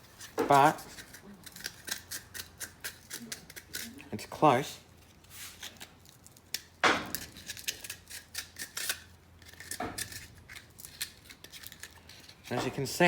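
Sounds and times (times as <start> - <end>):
hand tools ticking and scraping: 0.0 - 13.0.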